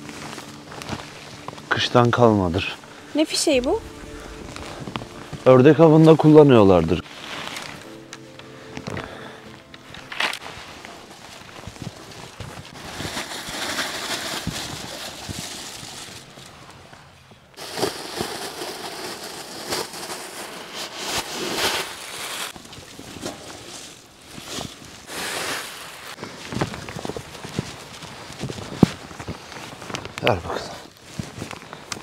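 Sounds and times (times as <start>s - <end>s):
plastic bags rustling: 0.0s - 17.0s, 17.6s - 32.0s.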